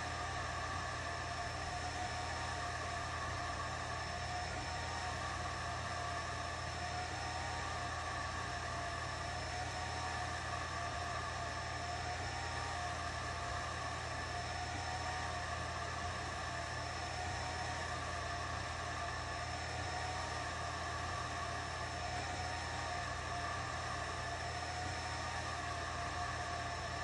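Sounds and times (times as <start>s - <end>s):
fans whirring: 0.0s - 27.0s.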